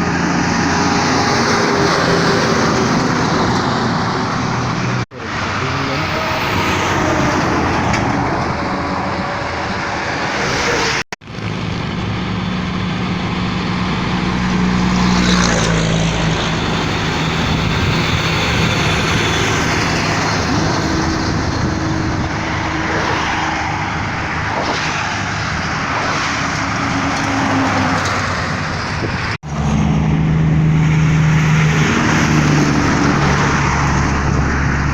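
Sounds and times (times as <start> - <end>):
road noise: 0.0 - 34.9
truck engines running: 0.0 - 34.9.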